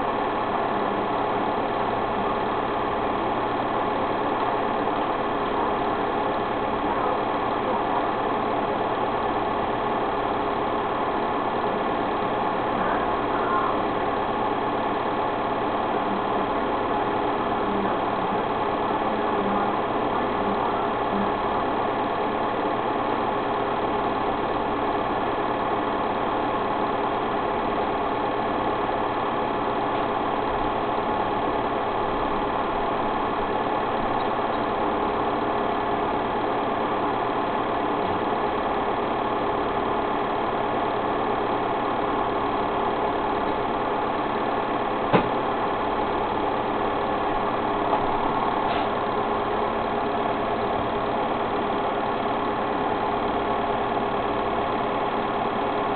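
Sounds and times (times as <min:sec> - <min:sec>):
small machine humming: 0:00.0 - 0:55.9.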